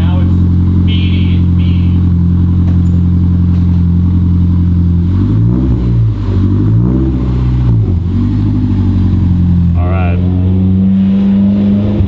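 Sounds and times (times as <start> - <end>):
car engine idling: 0.0 - 12.0
engine revving: 0.0 - 12.0.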